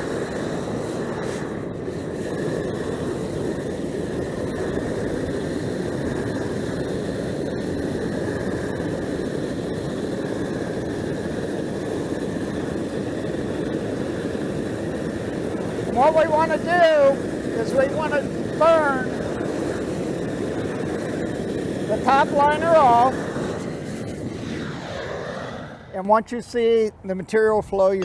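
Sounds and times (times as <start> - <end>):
propane torch burning: 0.0 - 28.0.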